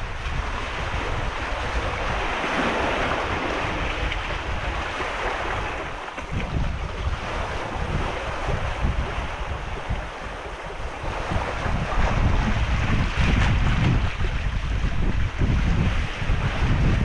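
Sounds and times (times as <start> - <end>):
sea surf among boulders: 0.0 - 17.0
wind buffeting microphone: 0.0 - 17.0.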